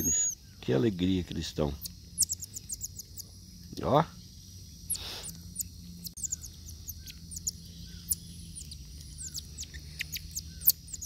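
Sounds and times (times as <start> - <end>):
marmosets chirping: 0.0 - 11.0.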